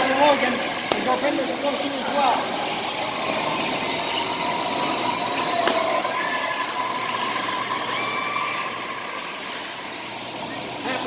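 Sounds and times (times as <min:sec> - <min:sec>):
electric go-kart motors whining: 0:00.0 - 0:11.0.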